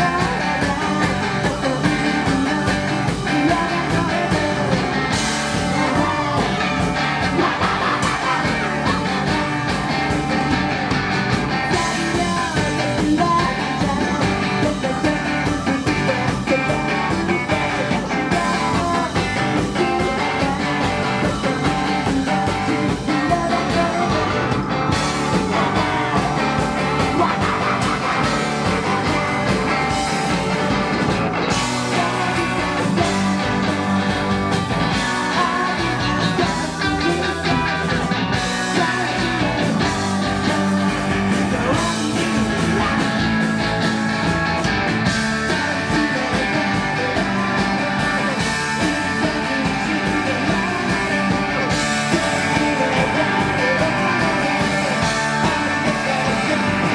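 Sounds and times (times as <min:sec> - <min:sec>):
man singing: 0:00.0 - 0:44.0, 0:45.0 - 0:56.9
drums: 0:00.0 - 0:56.9
electric guitar: 0:00.0 - 0:56.9
keyboard: 0:00.0 - 0:56.9.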